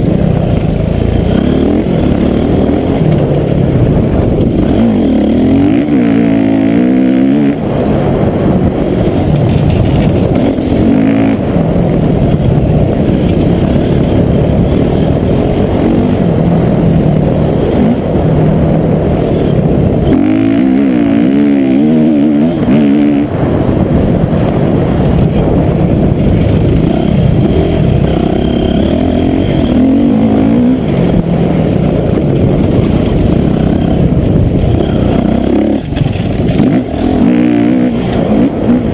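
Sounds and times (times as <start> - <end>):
dirt bike engine revving: 0.0 - 23.8, 24.8 - 38.9.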